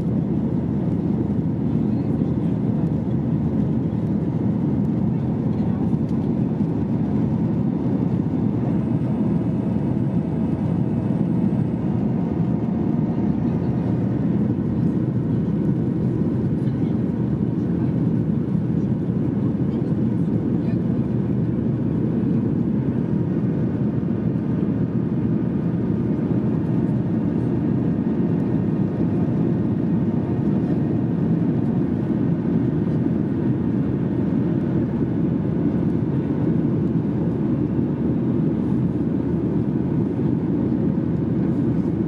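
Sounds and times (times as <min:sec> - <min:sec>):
airflow over fuselage: 0:00.0 - 0:42.0
jet engines rumbling: 0:00.0 - 0:42.0.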